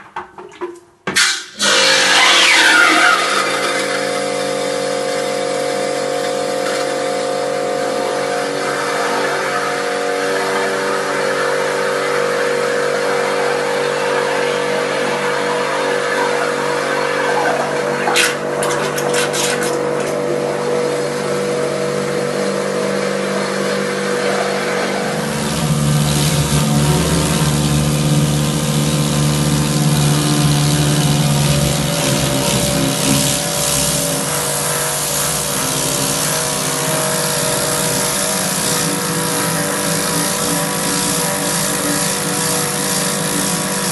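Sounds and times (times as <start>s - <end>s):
drain-clearing machine running: 1.6s - 43.9s.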